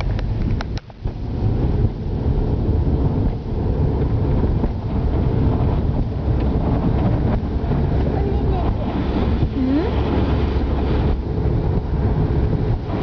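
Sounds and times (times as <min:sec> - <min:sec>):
car driving rumble: 0:00.0 - 0:13.0
wind buffeting microphone: 0:00.0 - 0:13.0.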